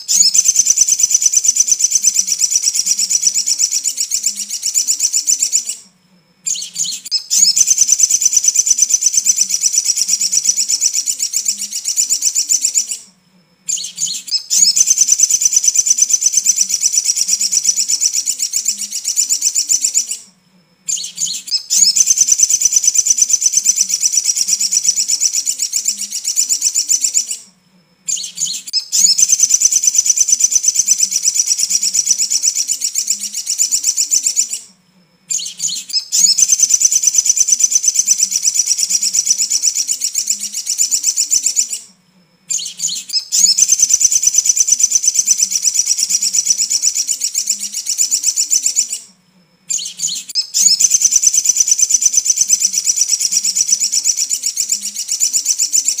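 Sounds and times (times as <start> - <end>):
bird song rapid high-pitched trill: 0.0 - 13.1, 13.7 - 20.3, 20.9 - 27.5, 28.1 - 49.1, 49.7 - 56.0.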